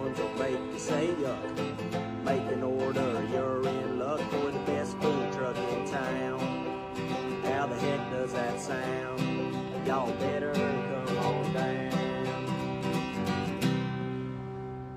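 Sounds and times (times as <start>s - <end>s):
acoustic guitar country tune: 0.0s - 14.9s.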